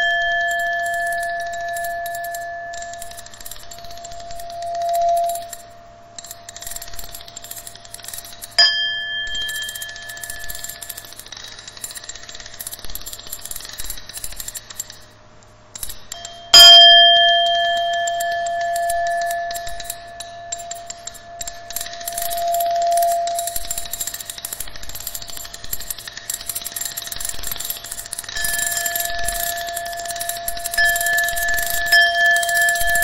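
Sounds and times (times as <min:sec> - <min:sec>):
metallic bell-like strikes: 0:00.0 - 0:11.2, 0:16.1 - 0:33.0
low hum and hiss: 0:00.0 - 0:33.0
sustained ringing tones: 0:00.0 - 0:33.0.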